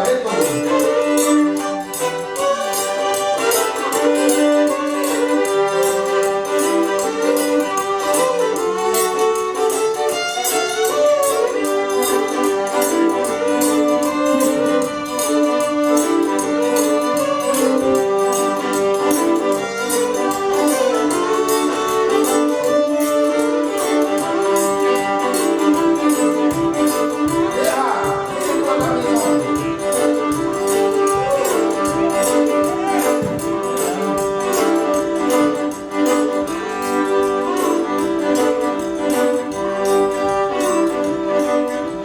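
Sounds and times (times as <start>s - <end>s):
fiddle melody: 0.0s - 42.0s
string band playing lively tune: 0.0s - 42.0s.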